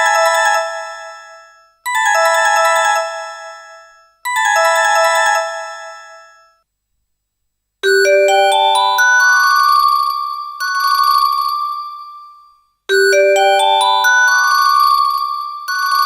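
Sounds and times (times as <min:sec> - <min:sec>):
melodic phone ringtone: 0:00.0 - 0:06.6, 0:07.8 - 0:16.0
ringtone with rising notes: 0:00.0 - 0:06.6, 0:07.8 - 0:16.0.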